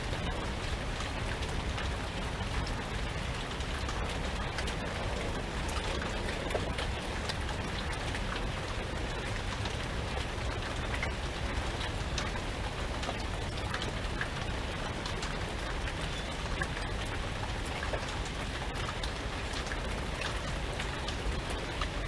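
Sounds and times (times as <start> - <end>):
low wind rumble: 0.0 - 22.0
rain drops ticking: 0.0 - 22.0
rain hiss: 0.0 - 22.0.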